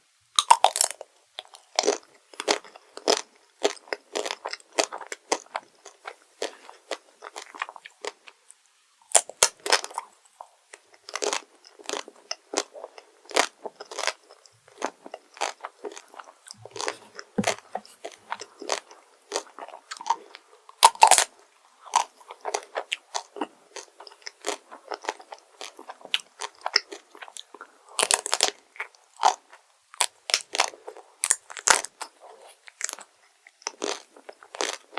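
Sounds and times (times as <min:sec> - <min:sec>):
crunchy bites and chewing: 0:00.4 - 0:08.4, 0:09.1 - 0:10.1, 0:10.7 - 0:34.9.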